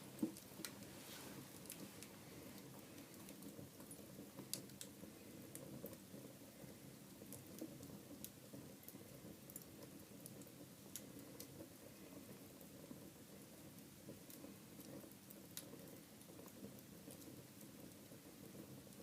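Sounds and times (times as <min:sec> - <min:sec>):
flames low steady sound: 0:00.0 - 0:19.0
wood fire crackling and popping: 0:00.0 - 0:19.0.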